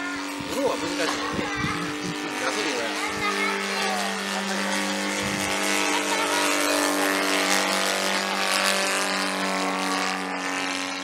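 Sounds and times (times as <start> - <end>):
model plane engine droning: 0.0 - 11.0.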